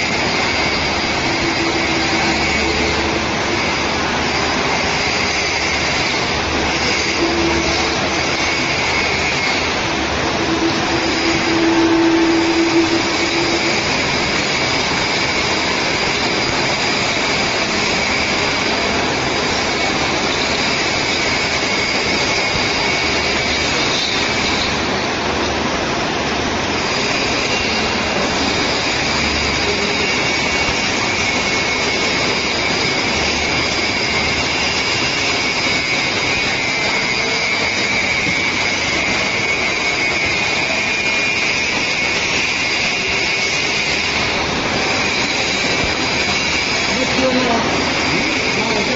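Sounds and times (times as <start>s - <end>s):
high-pitched whine: 0.0s - 48.9s
machinery hiss: 0.0s - 48.9s
steady hum: 0.0s - 48.9s.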